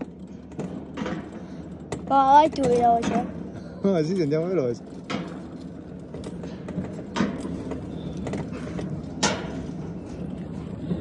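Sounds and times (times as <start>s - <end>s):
coaster sled rolling on metal rail: 0.0s - 11.0s.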